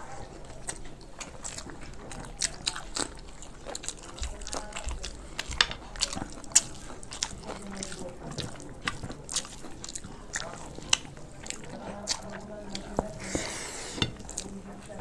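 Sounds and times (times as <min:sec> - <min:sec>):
wet chewing and mouth smacks: 0:00.0 - 0:15.0.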